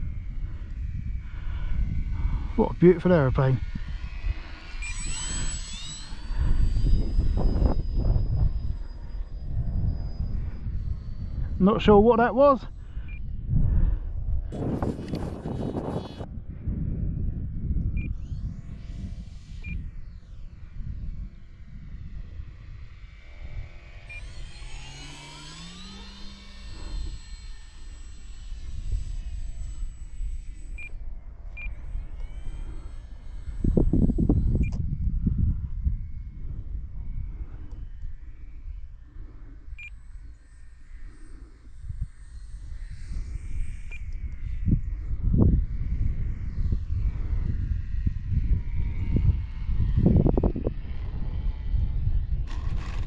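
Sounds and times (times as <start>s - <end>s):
rc plane motor whining: 0.0s - 53.0s
wind rumble on microphone: 0.0s - 53.0s.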